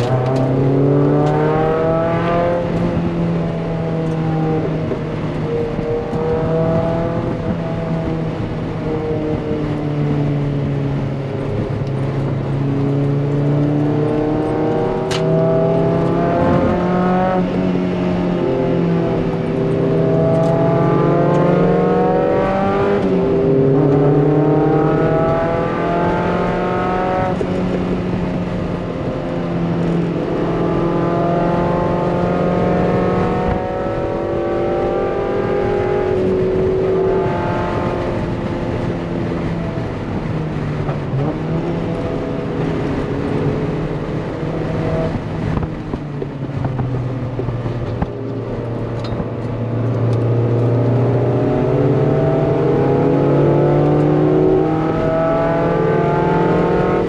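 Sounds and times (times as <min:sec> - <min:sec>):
car engine revving on track: 0:00.0 - 0:57.0.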